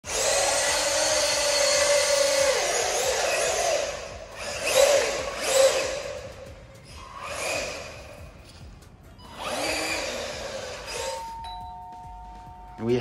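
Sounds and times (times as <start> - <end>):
electric motor whining: 0.0 - 8.6, 9.2 - 11.4.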